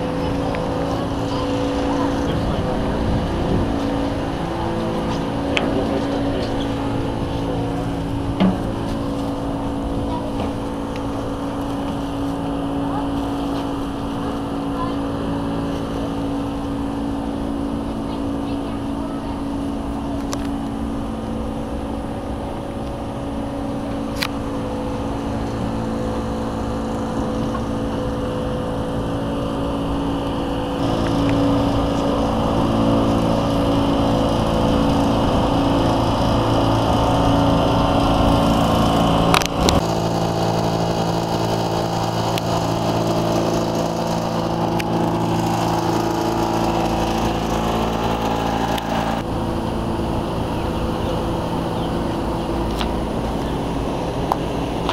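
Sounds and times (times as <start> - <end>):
mechanical drone: 0.0 - 54.9.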